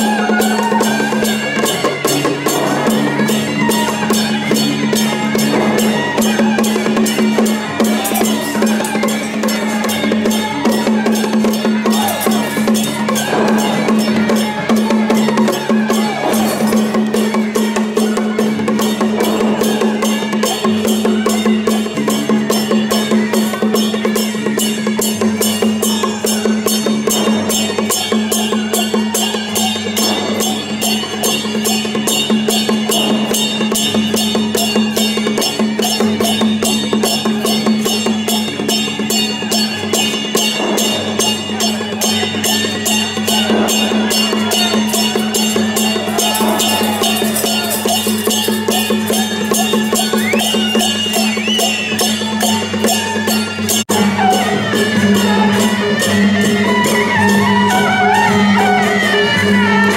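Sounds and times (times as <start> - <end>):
drums: 0.0 - 59.9
fast repeating percussion strikes: 0.0 - 59.9.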